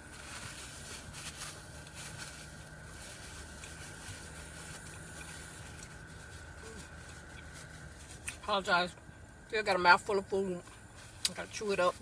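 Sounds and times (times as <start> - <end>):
car air conditioning blower hiss: 0.0 - 12.0
faint whine: 0.0 - 12.0.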